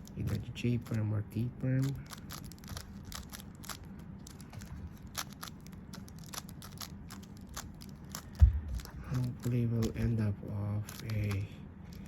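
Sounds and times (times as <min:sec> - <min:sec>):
puzzle cube plastic clicks: 0:00.0 - 0:10.2, 0:10.8 - 0:12.0.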